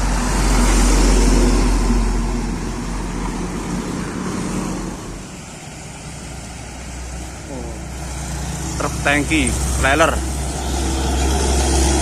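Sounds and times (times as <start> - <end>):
truck passing by: 0.0 - 12.0.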